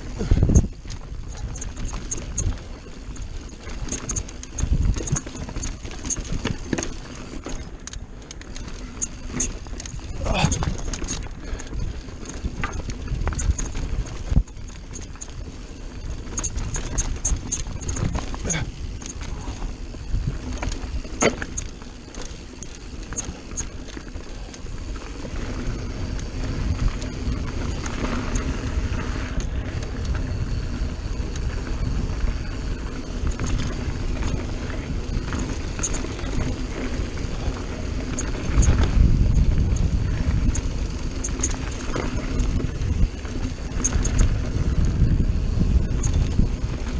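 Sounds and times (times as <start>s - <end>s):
bike knocking and rattling over rocks: 0.0s - 46.9s
low rumble of tyres and wind: 0.0s - 46.9s.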